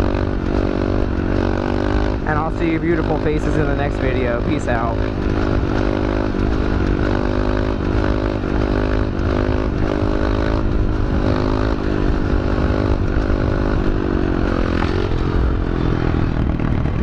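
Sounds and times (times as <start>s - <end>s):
low wind rumble: 0.0s - 17.0s
motorbike engine revving: 0.0s - 17.0s.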